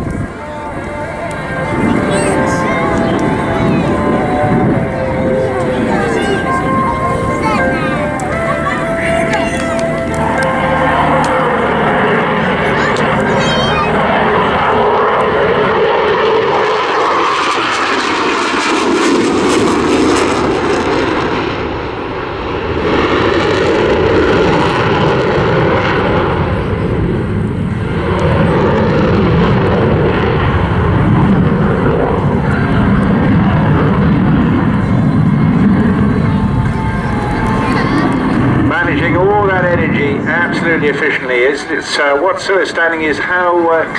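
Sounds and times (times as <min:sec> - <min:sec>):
loud jet engine roar: 0:00.0 - 0:43.9.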